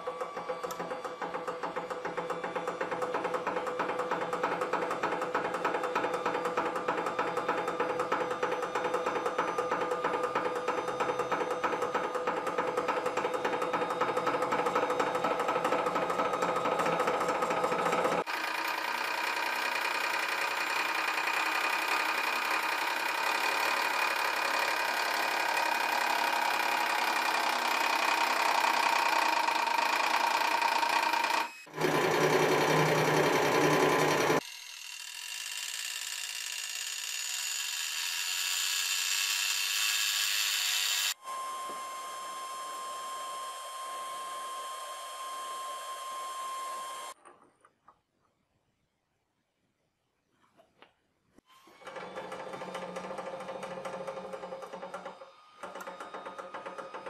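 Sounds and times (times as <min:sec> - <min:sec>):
hydraulic press motor whine: 0:00.0 - 0:34.4, 0:37.7 - 0:47.2, 0:51.5 - 0:57.0.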